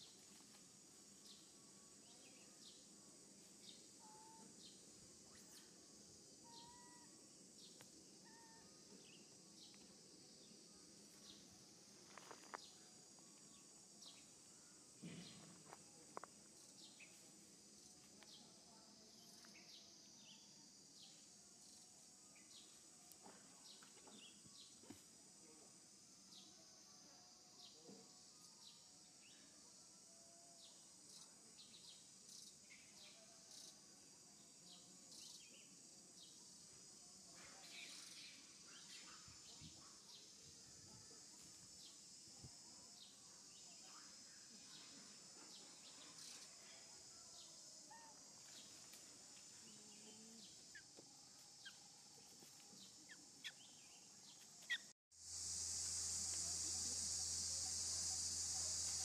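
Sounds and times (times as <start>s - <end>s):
high-pitched insect drone: 0.0s - 18.0s, 25.4s - 59.0s.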